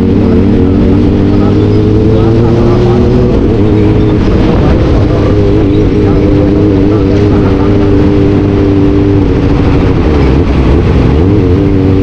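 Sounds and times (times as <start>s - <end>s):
engine running at high revs: 0.0s - 12.0s.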